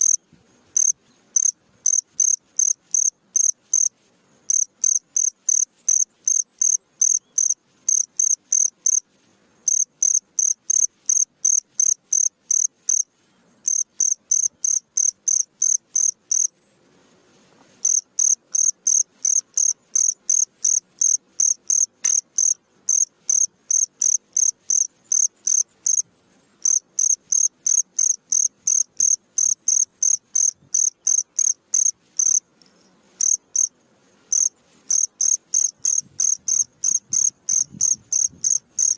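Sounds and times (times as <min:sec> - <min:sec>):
cricket chirping: 0:00.0 - 0:00.2, 0:00.8 - 0:03.9, 0:04.5 - 0:09.0, 0:09.6 - 0:16.5, 0:17.8 - 0:33.7, 0:34.3 - 0:38.9.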